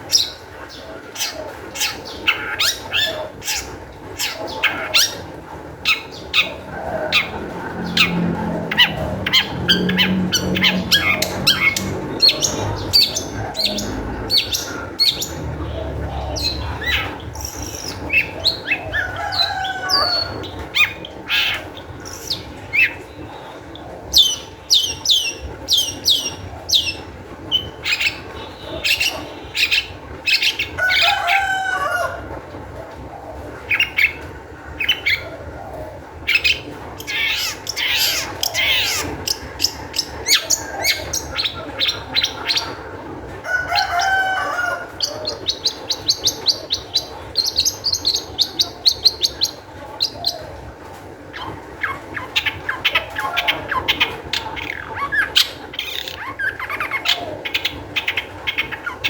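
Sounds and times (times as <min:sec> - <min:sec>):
bird singing varied song: 0:00.0 - 0:31.4, 0:36.2 - 0:42.9, 0:43.7 - 0:50.6, 0:51.3 - 0:59.0.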